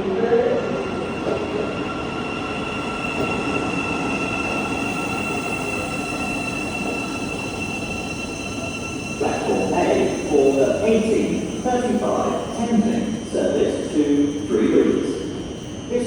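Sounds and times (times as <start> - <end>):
train wheels rumbling on rail: 0.0 - 16.0
high-pitched squeal: 0.8 - 16.0.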